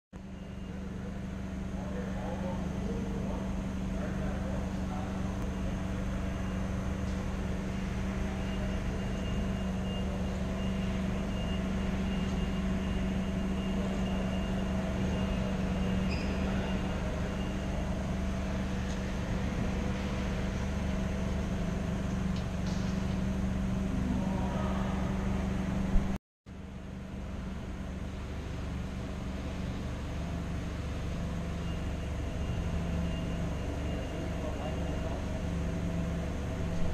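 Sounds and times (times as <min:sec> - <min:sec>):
mechanical hum: 0:00.2 - 0:36.9.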